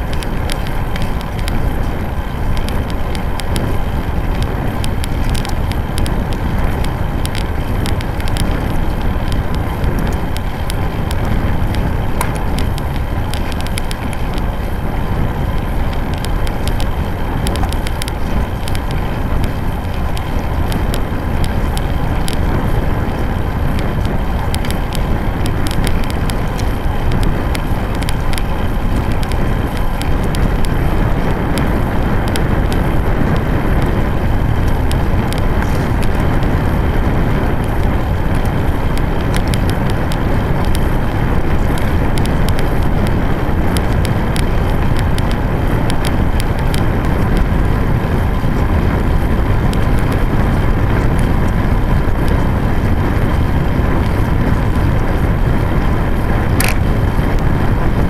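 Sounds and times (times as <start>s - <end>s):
small irregular clicks and rattles: 0.0s - 58.0s
tyres humming on asphalt: 0.0s - 58.0s
wind buffeting microphone: 0.0s - 58.0s.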